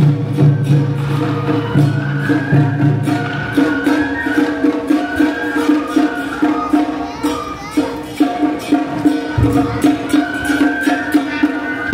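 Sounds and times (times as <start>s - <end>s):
pulsing drum beat: 0.0s - 11.9s
high wavering melody: 0.4s - 11.9s.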